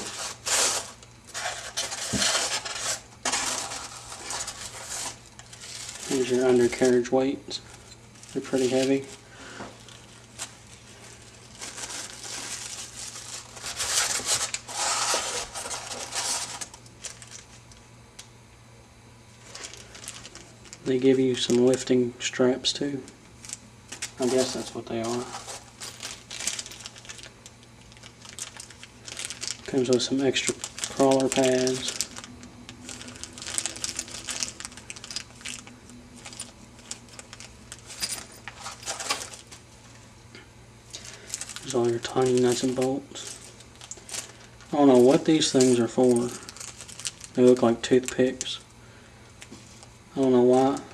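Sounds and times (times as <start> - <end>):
plastic packaging rustling: 0.0 - 17.8, 19.3 - 22.0, 23.0 - 40.1, 40.9 - 50.9
plastic wrapping crinkling: 0.0 - 18.3, 19.3 - 22.0, 23.0 - 40.1, 40.8 - 50.9.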